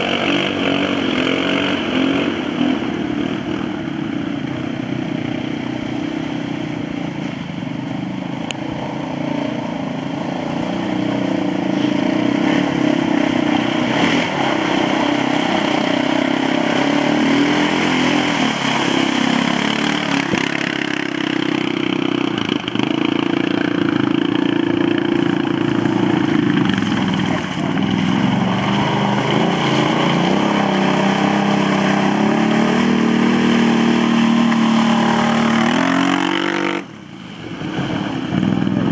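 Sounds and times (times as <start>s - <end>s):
quad bike engines revving: 0.0s - 38.9s.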